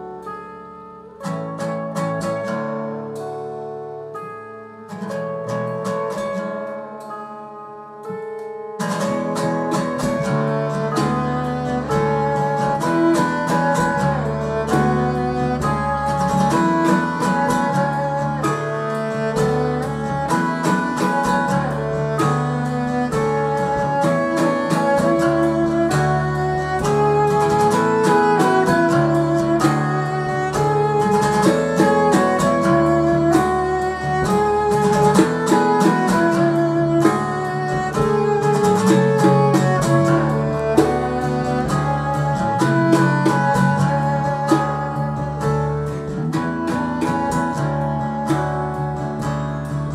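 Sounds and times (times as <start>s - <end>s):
bowed strings: 0.0s - 49.9s
guitar: 0.0s - 49.9s.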